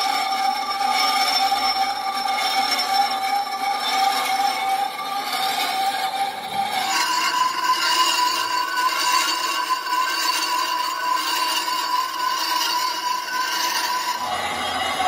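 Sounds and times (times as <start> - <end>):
lathe cutting metal whine: 0.0 - 15.0.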